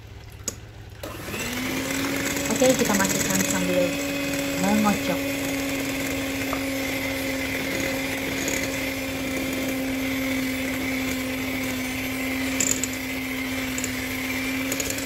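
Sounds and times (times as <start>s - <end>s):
electric hand mixer whisking: 1.0s - 15.0s.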